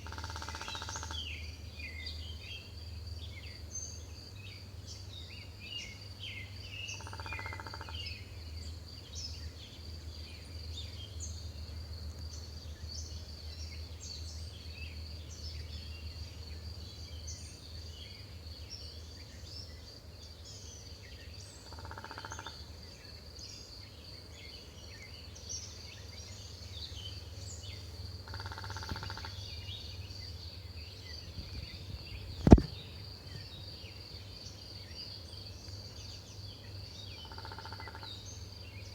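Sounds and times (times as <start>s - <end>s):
high insect trill: 0.0s - 1.6s, 6.0s - 20.0s, 20.7s - 38.9s
small birds chirping: 0.0s - 38.9s.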